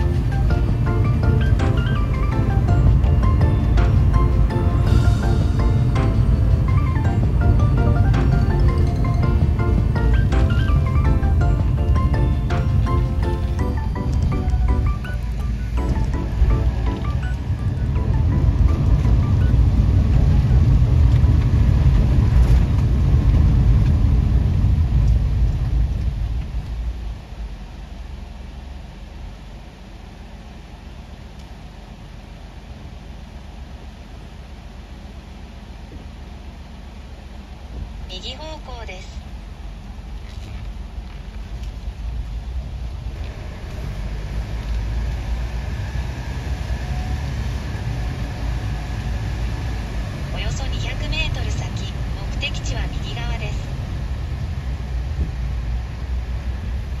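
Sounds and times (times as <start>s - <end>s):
road noise on wet road: 0.0s - 57.0s
van engine: 0.0s - 57.0s.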